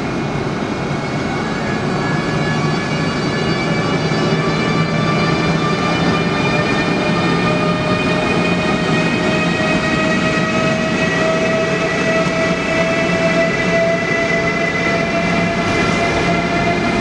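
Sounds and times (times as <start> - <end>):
rising whine: 0.0 - 17.0
train rail noise: 0.0 - 17.0.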